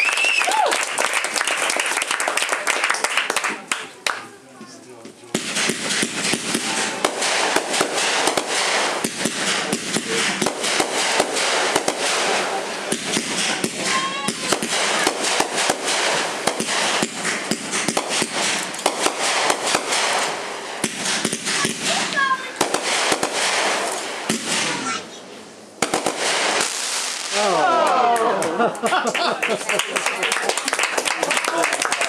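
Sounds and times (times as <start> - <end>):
fireworks crackling and banging: 0.0 - 32.0.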